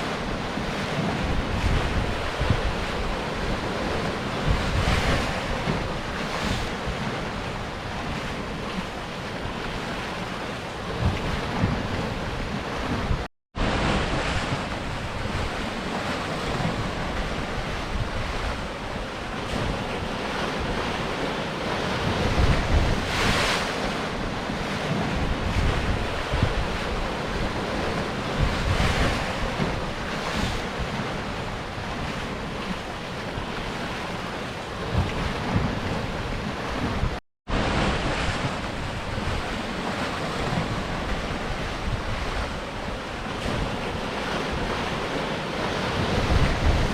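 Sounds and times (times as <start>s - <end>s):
sea surf washing over rocks: 0.0s - 46.9s.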